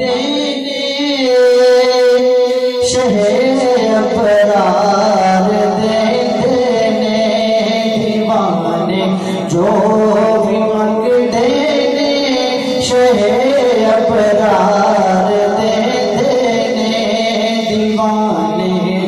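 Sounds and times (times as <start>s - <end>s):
man singing devotional chant: 0.0s - 19.0s.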